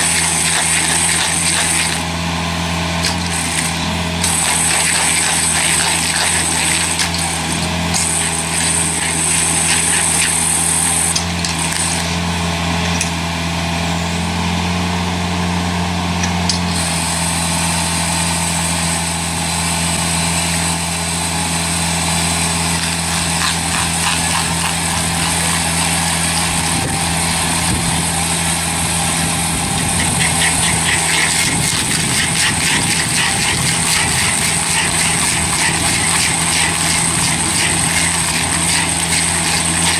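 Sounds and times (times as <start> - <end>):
heavy machine engine droning: 0.0 - 39.9.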